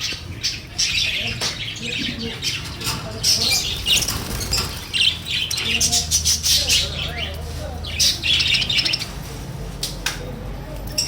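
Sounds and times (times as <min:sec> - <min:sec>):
cage birds squawking and chirping: 0:00.0 - 0:10.0.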